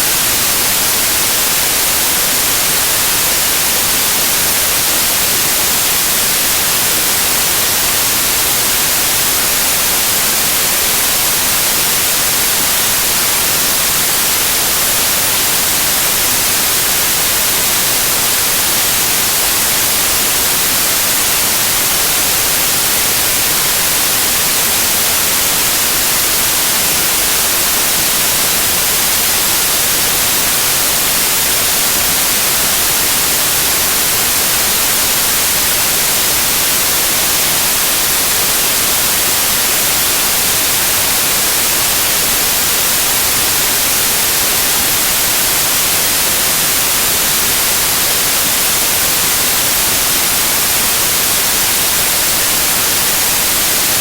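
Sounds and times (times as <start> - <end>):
loud white noise hiss: 0.0 - 54.0.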